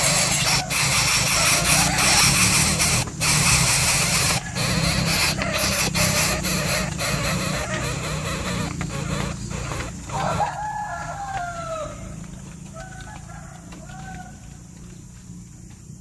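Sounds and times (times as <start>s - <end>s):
rooster crowing: 0.0s - 3.0s, 4.0s - 14.8s.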